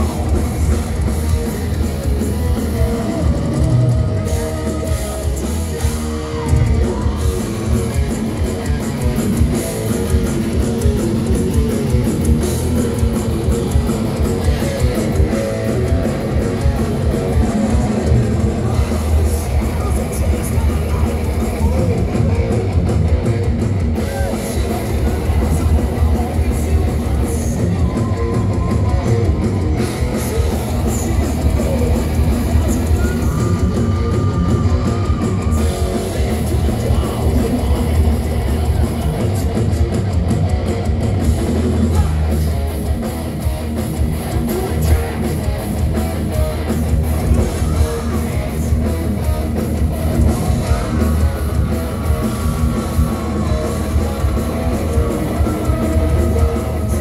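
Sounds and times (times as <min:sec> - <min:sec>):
bass guitar: 0:00.0 - 0:57.0
distorted electric guitars: 0:00.0 - 0:57.0
pounding drum kit: 0:00.0 - 0:57.0.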